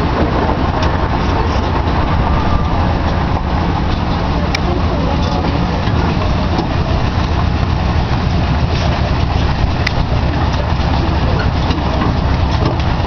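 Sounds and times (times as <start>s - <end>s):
road train engine rumble: 0.0s - 13.0s.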